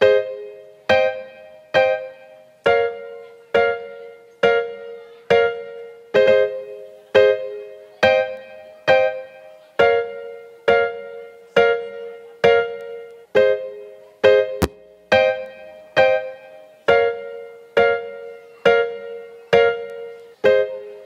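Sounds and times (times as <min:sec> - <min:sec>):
keyboard piano chords: 0:00.0 - 0:21.0.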